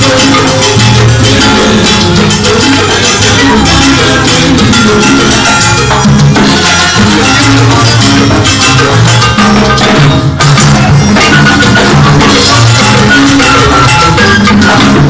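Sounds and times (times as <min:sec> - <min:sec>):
salsa band playing: 0:00.0 - 0:15.0.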